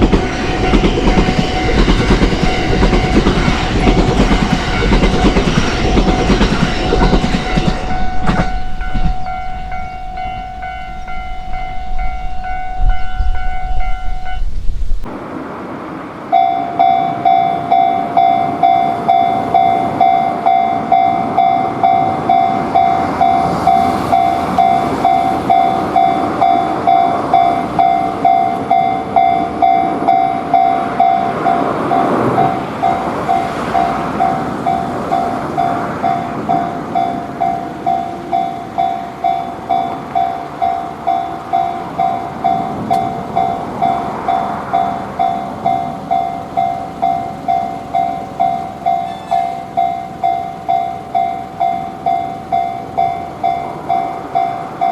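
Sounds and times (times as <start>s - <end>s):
level-crossing alarm clanging: 0.0s - 14.6s, 16.3s - 54.9s
train rumbling past: 0.0s - 54.9s.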